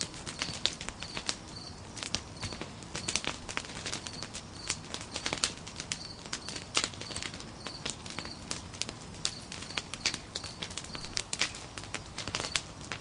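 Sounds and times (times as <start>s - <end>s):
burning wood snapping: 0.0s - 13.0s
campfire crackling: 0.0s - 13.0s.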